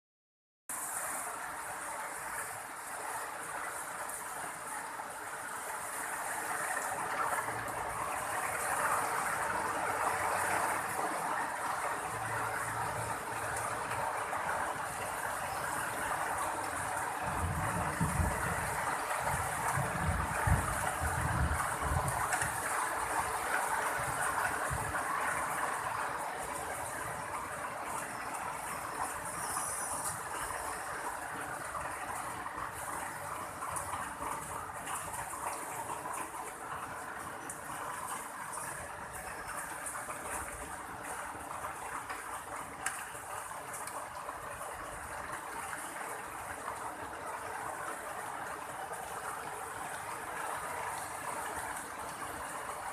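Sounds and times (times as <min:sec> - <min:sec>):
heavy rain falling: 0:00.7 - 0:52.9.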